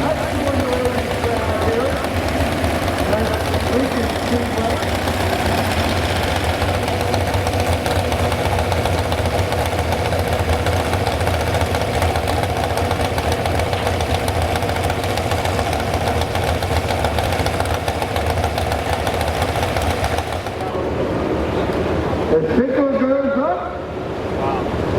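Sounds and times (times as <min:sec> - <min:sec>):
large engine idling: 0:00.0 - 0:24.9.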